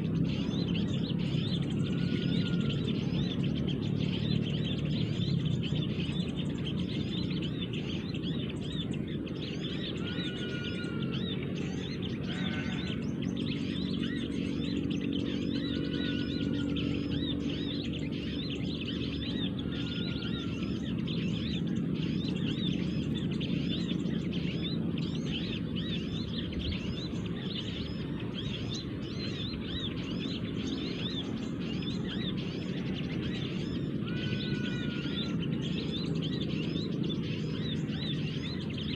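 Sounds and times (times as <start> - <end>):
low background rumble: 0.0 - 38.9
small birds chirping: 0.0 - 38.9.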